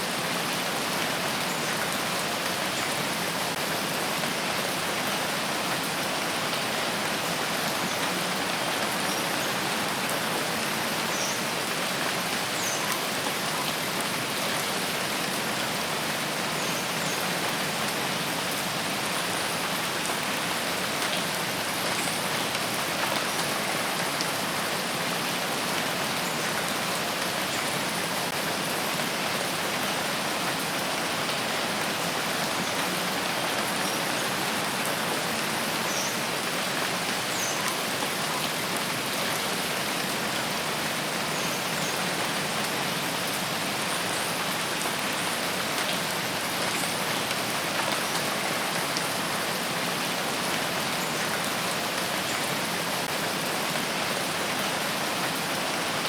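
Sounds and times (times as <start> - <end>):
rain on a forest: 0.0 - 56.0.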